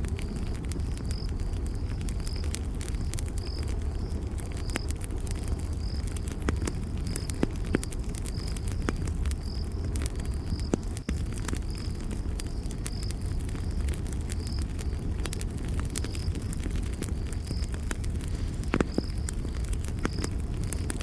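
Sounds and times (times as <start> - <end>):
campfire crackling: 0.0 - 21.0
cricket chirping: 0.0 - 21.0.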